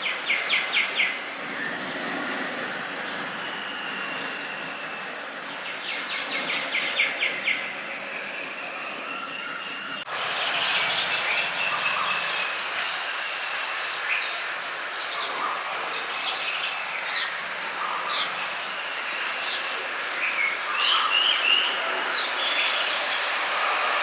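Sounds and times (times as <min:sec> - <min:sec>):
environmental background noise: 0:00.0 - 0:24.0.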